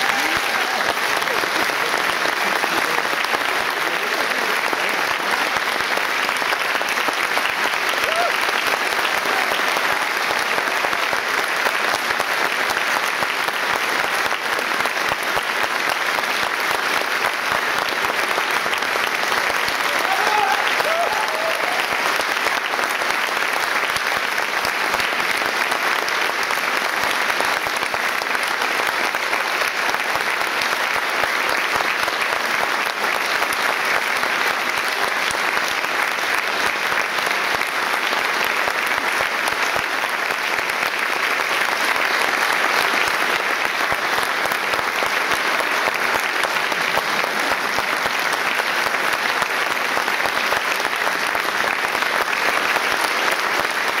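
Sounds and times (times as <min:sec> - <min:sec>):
audience applauding: 0:00.0 - 0:54.0.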